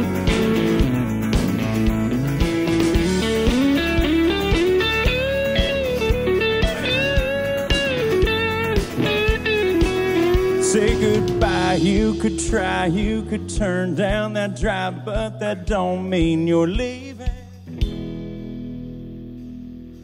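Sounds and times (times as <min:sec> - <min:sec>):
electric guitar lead melody: 0:00.0 - 0:16.5, 0:17.7 - 0:20.0
drums: 0:00.0 - 0:20.0.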